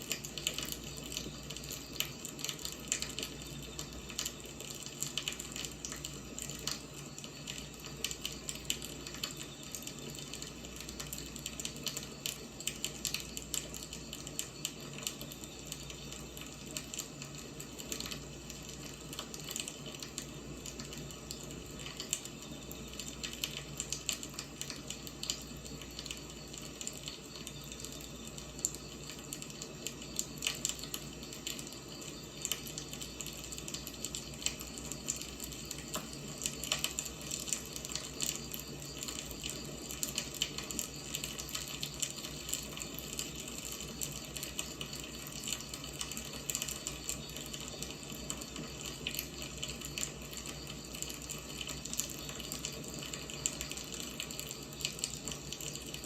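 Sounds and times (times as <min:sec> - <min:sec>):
firewood burning crackling: 0:00.0 - 0:56.0.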